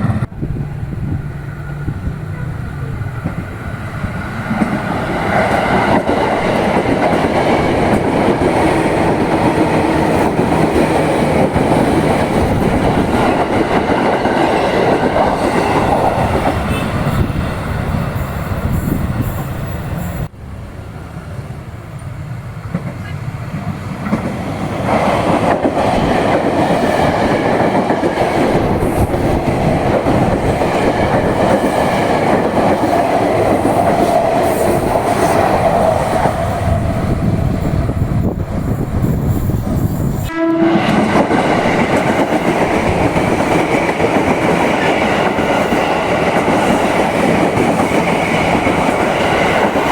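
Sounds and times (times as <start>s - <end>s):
electric train passing: 0.0s - 49.9s.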